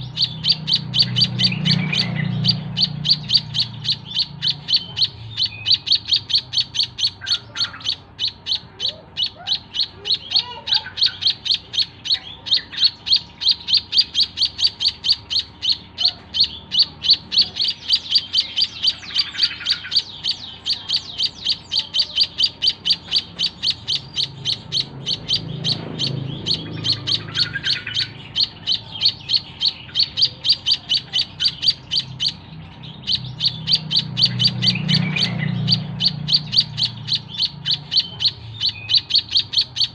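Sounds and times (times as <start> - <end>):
chick chirping rapidly: 0.0 - 39.9.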